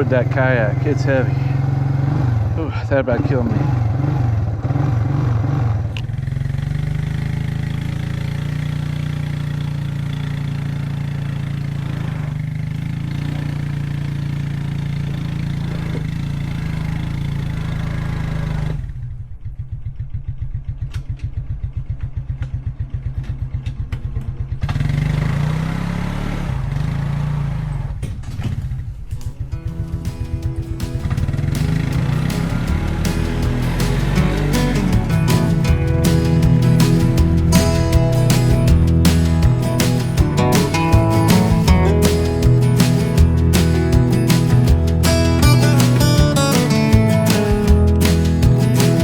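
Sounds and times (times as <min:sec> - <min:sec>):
atv engine running: 0:00.0 - 0:27.9, 0:29.6 - 0:49.0.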